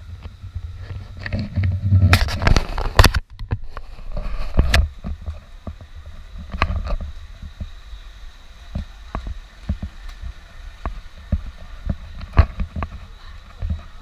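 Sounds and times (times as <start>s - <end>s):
wind and handling rumble: 0.0s - 14.0s.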